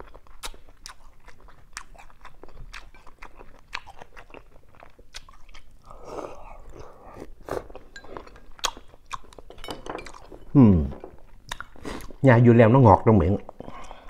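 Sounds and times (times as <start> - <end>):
wet chewing and mouth clicks: 0.0 - 12.2.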